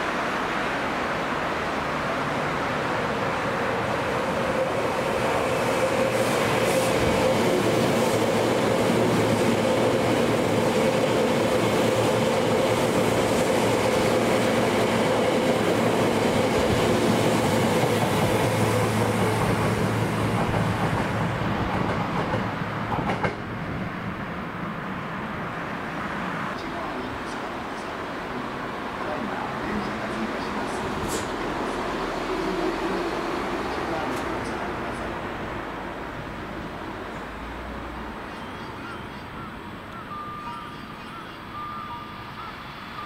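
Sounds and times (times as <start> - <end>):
train wheels rumbling on rail: 1.4 - 24.2, 26.2 - 43.0.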